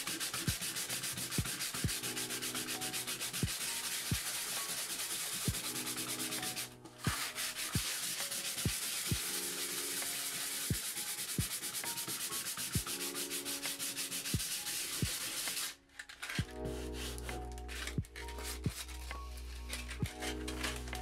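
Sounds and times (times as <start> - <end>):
sandpaper rubbing: 0.0 - 21.0.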